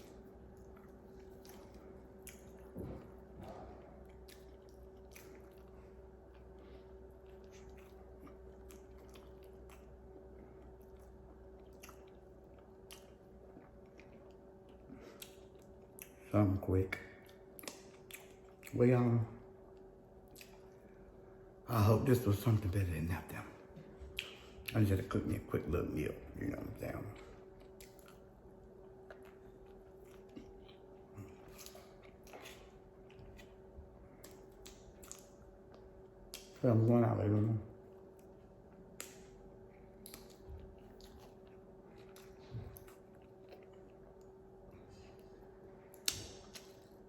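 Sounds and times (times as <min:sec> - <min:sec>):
faint chewing: 0:00.0 - 0:16.3, 0:16.9 - 0:18.8, 0:19.6 - 0:21.4, 0:23.6 - 0:25.4, 0:26.4 - 0:47.0
faint hum: 0:00.0 - 0:47.0.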